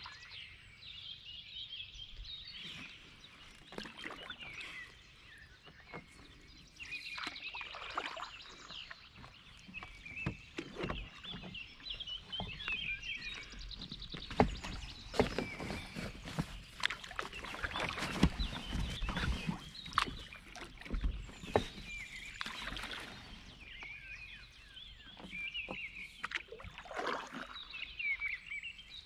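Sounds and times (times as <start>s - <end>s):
songbirds singing: 0.0s - 29.0s
kayak paddle splashing: 2.4s - 29.0s.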